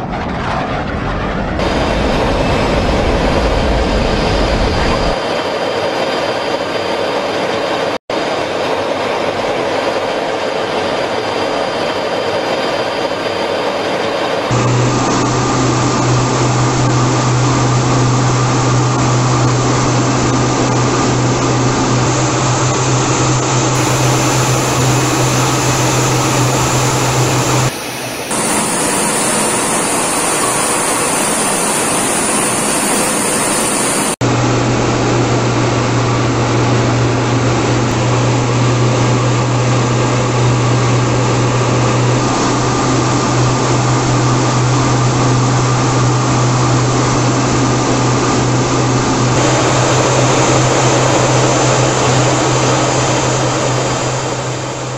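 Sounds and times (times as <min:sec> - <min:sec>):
rushing air noise: 0:00.0 - 0:05.2, 0:14.5 - 0:54.9
strong low hum: 0:00.0 - 0:05.2, 0:14.5 - 0:54.9
jet engine roar: 0:00.0 - 0:54.9.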